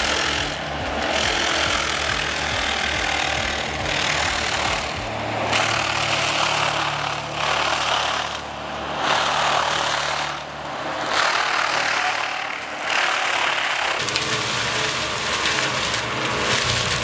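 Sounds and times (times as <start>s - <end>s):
diesel engine and hydraulics hum: 0.0s - 17.0s
disc mulcher grinding wood: 0.0s - 17.0s.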